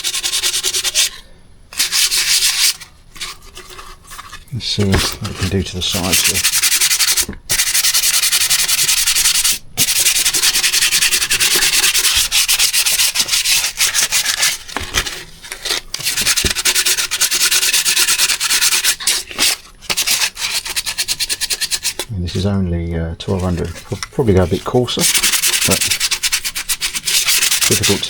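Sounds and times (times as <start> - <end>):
sandpaper rubbing on metal: 0.0 - 3.3, 4.6 - 14.8, 15.7 - 22.5, 23.3 - 28.0.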